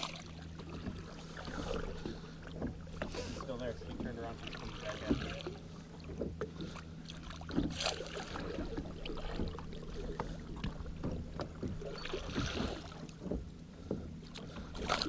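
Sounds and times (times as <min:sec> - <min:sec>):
steady low hum: 0:00.0 - 0:15.0
water splashing: 0:00.0 - 0:15.0
rod and gear knocking on boat: 0:00.6 - 0:05.4, 0:06.0 - 0:15.0.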